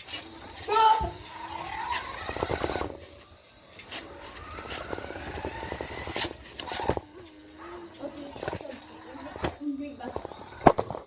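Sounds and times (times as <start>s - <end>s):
gears and wheels rattling: 0.0s - 11.0s
toy car electric motor whining: 0.0s - 11.0s.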